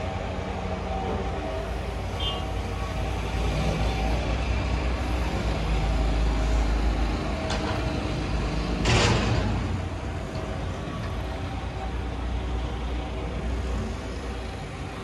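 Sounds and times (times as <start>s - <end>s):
road traffic: 0.0s - 15.0s
vehicle engine rumble: 0.0s - 15.0s.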